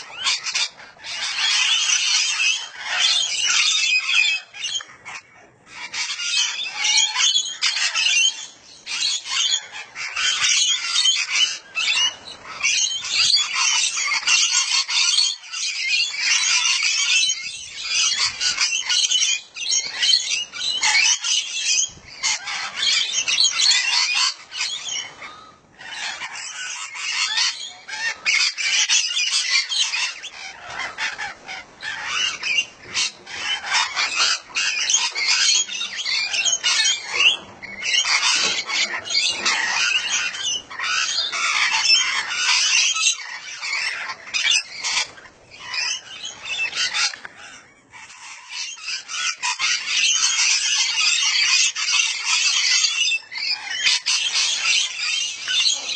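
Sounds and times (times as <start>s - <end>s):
parrots squawking and chattering: 0.0s - 55.9s.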